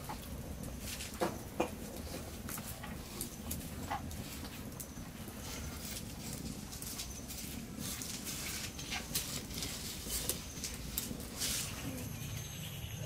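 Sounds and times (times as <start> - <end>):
fire crackling and popping: 0.0 - 12.7.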